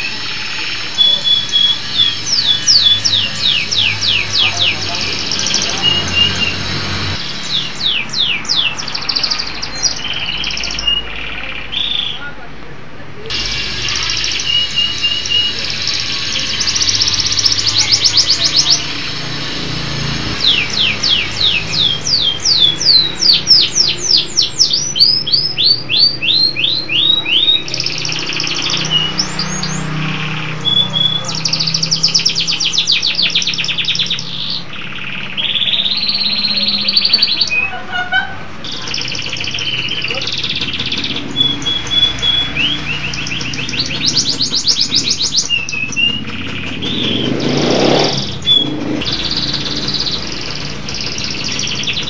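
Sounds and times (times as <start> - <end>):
canary singing trills: 0.0 - 12.4, 13.2 - 52.0.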